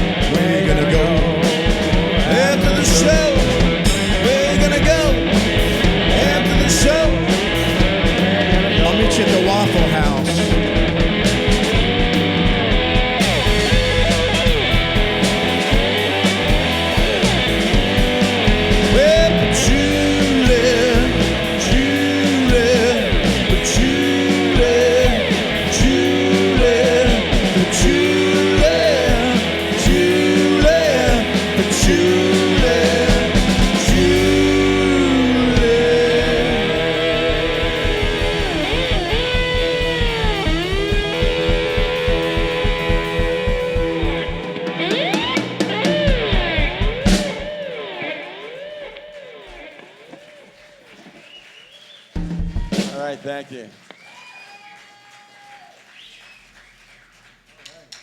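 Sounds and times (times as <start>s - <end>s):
drums with cymbal hits: 0.0s - 47.8s, 52.0s - 54.0s
bass guitar: 0.0s - 47.9s
lead guitar solo with bent notes: 0.0s - 50.2s.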